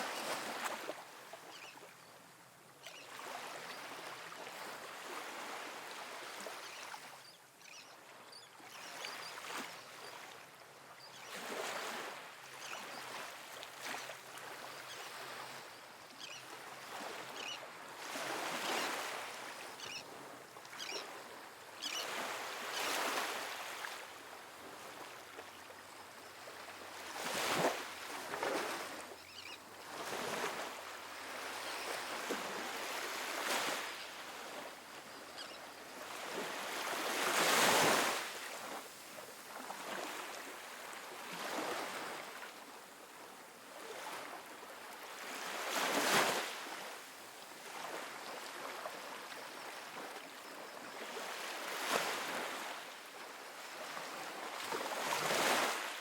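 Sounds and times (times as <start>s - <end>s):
small waves on sandy beach: 0.0s - 56.0s.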